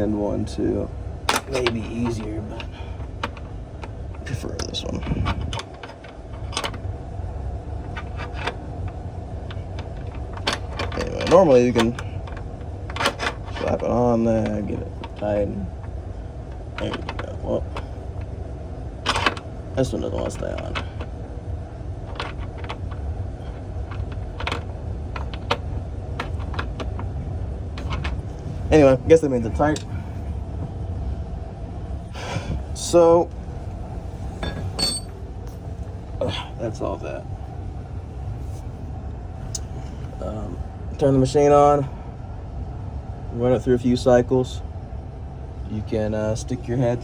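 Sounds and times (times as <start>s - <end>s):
low machinery hum: 0.0s - 47.0s.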